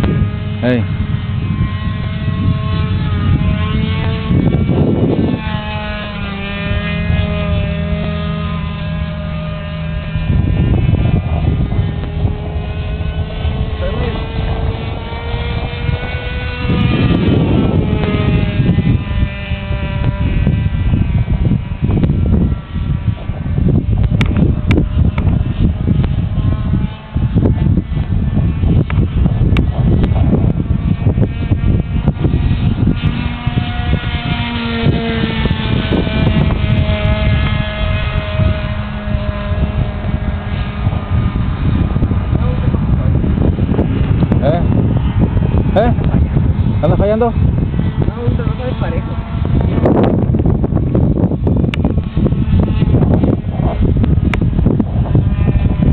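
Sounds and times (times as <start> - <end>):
model airplane engine buzzing: 0.0 - 55.9
wind rumble on microphone: 0.0 - 55.9.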